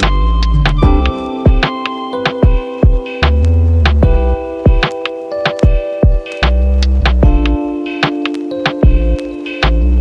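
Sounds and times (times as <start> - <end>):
background music with struck notes: 0.0 - 10.0.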